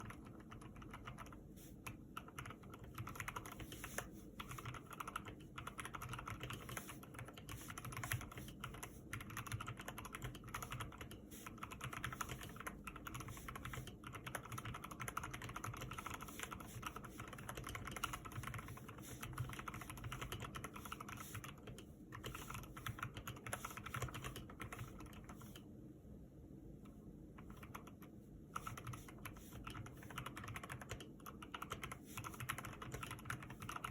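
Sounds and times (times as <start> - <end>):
mechanical keyboard typing: 0.0 - 25.6, 27.4 - 33.9.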